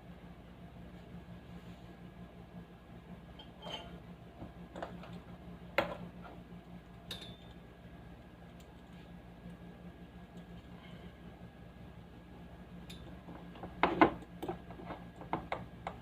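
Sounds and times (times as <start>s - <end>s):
loudspeaker electrical hum: 0.0s - 16.0s.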